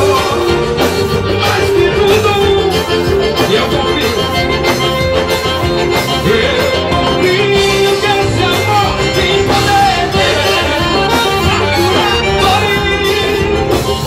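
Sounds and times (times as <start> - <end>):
man singing into a microphone: 0.0 - 4.9, 5.9 - 14.0
backing band playing: 0.0 - 14.0.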